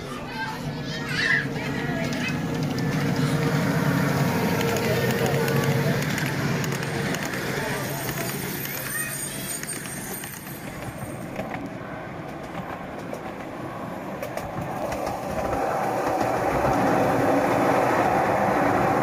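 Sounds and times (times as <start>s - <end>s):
miniature train rolling on track: 0.6s - 19.0s
wheels clicking on rails: 0.8s - 19.0s.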